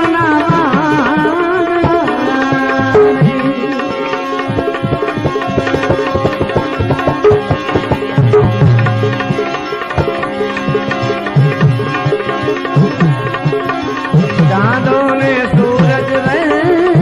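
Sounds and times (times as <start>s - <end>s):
held melodic tones: 0.0s - 17.0s
tabla strokes: 0.0s - 17.0s.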